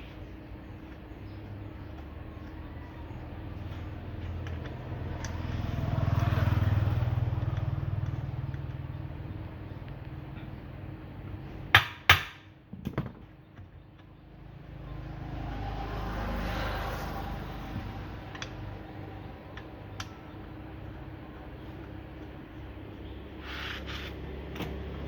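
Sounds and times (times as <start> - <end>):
vehicle engine hum: 0.0 - 11.8, 13.2 - 25.0.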